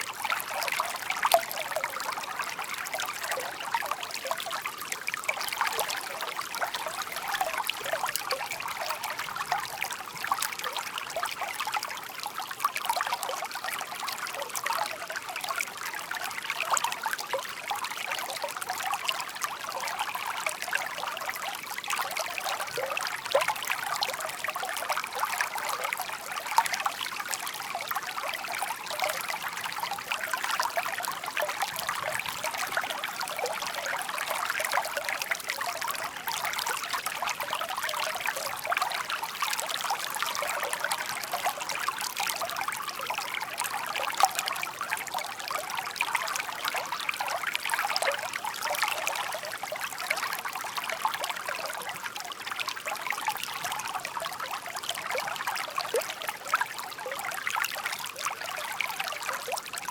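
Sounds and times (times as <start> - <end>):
shallow stream babbling: 0.0 - 59.9.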